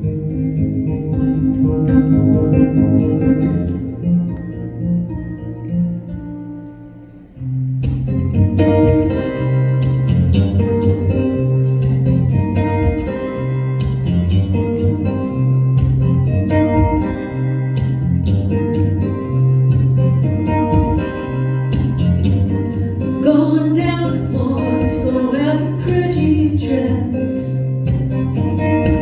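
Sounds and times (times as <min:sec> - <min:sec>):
live band electric guitars and bass: 0:00.0 - 0:29.0.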